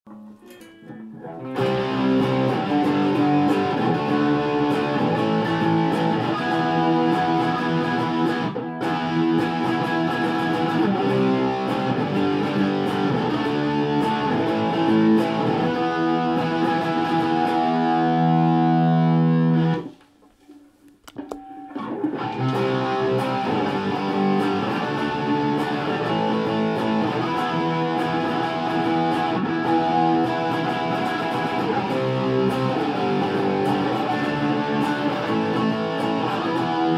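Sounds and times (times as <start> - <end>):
electric guitar with overdrive: 0.1 - 20.0, 20.9 - 36.9.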